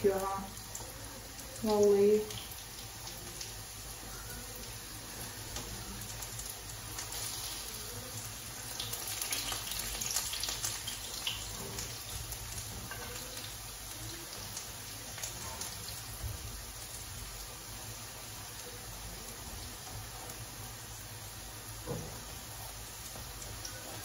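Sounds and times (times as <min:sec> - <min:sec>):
pastry frying in hot oil: 0:00.0 - 0:24.0.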